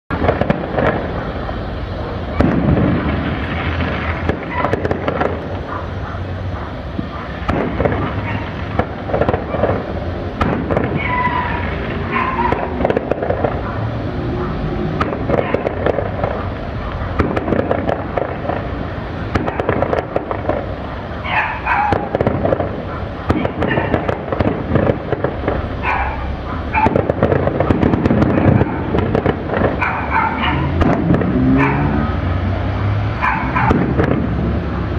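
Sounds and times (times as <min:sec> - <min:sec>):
fireworks cracking and popping: 0:00.1 - 0:34.9.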